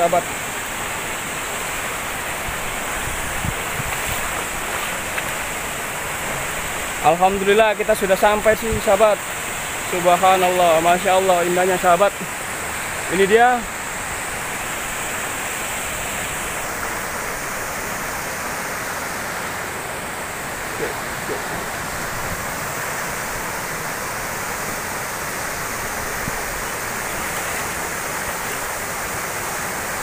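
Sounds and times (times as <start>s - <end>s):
rocky stream flowing: 0.0s - 30.0s
waterfall rushing: 0.0s - 30.0s.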